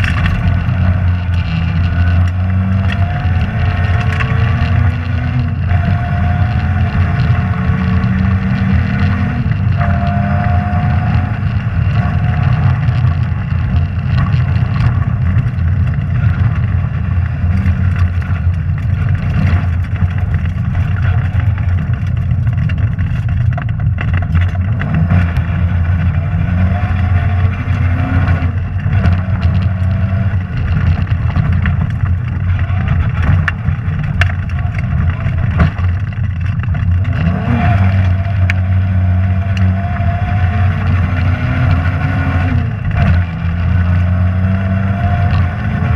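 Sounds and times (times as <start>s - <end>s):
sharp knocks and clicks: 0.0s - 38.6s
rally car engine under load: 0.0s - 45.9s.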